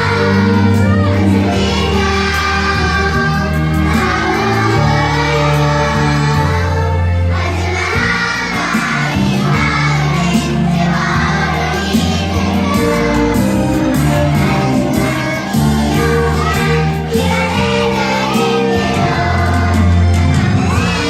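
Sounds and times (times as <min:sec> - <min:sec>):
children singing: 0:00.0 - 0:21.0.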